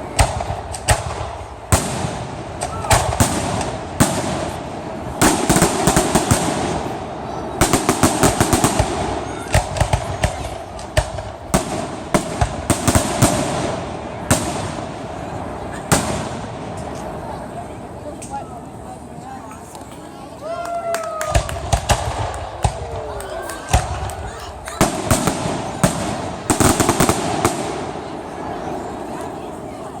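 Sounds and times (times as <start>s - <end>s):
fireworks bangs: 0.0s - 17.9s, 21.2s - 30.0s
fireworks crackling: 0.0s - 30.0s.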